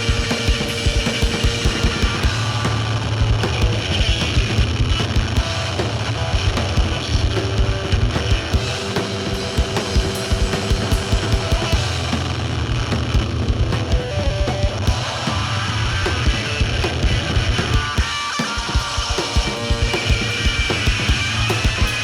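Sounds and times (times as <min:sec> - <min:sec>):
bass guitar: 0:00.0 - 0:22.0
distorted electric guitar: 0:00.0 - 0:22.0.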